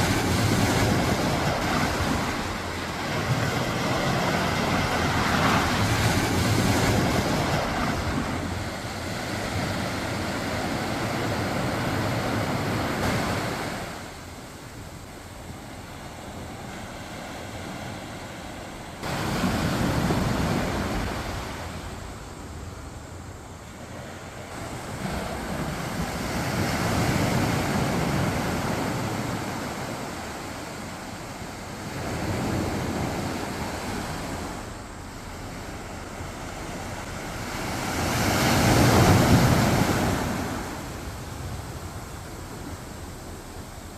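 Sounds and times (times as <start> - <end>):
waves washing onto beach: 0.0 - 43.9.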